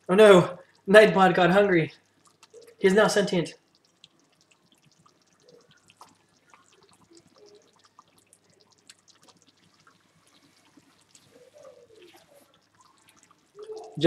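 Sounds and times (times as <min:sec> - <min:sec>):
sauce simmering with faint pops: 0:00.0 - 0:14.0.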